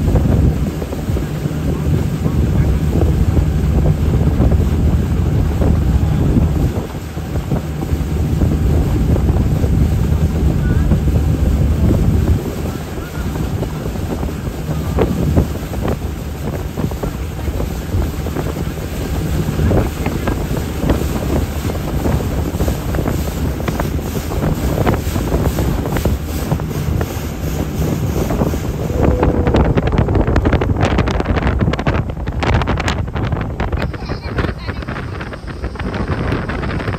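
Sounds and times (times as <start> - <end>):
boat engine humming: 0.0 - 36.9
water rushing past hull: 0.0 - 36.9
wind buffeting microphone: 0.0 - 36.9.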